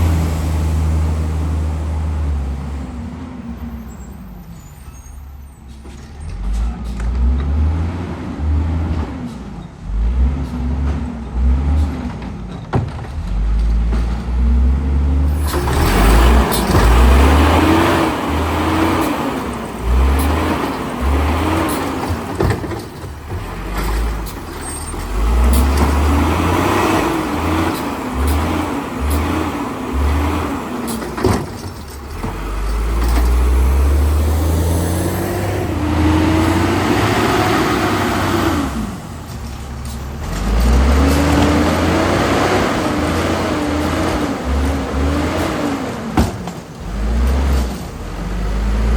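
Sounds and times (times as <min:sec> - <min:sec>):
truck engine revving: 0:00.0 - 0:04.6, 0:06.2 - 0:48.9.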